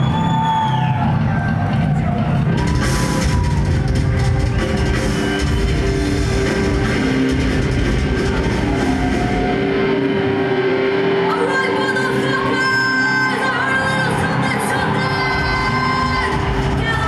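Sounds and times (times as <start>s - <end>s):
heavy metal band playing: 0.1s - 17.0s.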